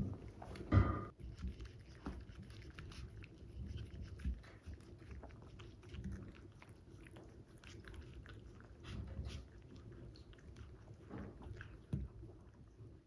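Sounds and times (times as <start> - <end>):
dog licking and chewing: 0.0 - 13.0.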